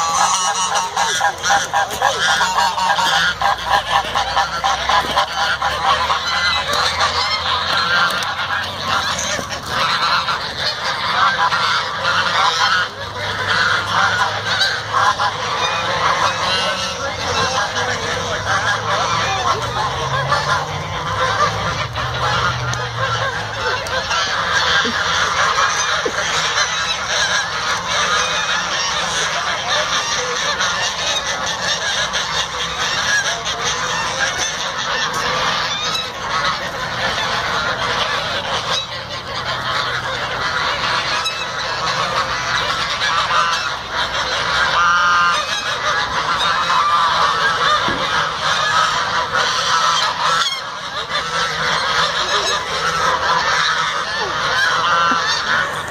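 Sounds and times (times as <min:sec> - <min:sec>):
geese honking: 0:00.0 - 0:55.9.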